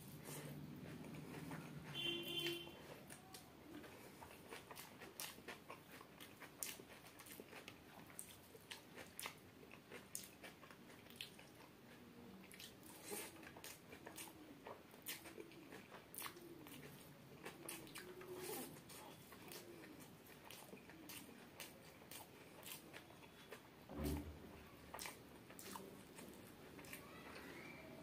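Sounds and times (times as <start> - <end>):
close chewing: 0.0 - 23.8, 24.6 - 27.7.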